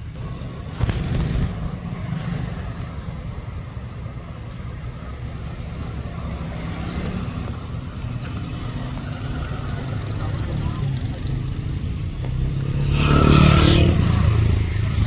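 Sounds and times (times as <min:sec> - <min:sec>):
motorcycle passing: 0:00.0 - 0:15.0
road traffic rumble: 0:00.0 - 0:15.0.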